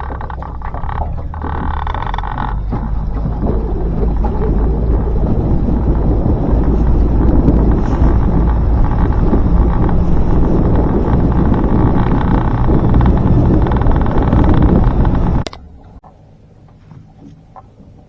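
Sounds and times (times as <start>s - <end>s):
wind buffeting the microphone: 0.0s - 15.5s
low motor hum: 0.0s - 18.0s.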